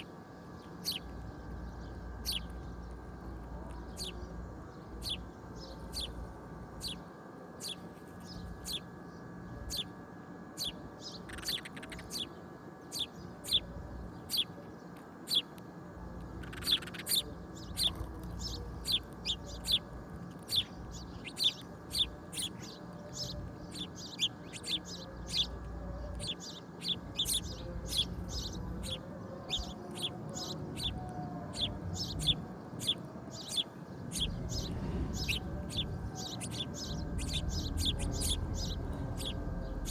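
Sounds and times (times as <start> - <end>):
bird chirping: 0.0 - 9.9, 10.6 - 15.5, 16.2 - 39.9
steady low hum: 0.0 - 39.9.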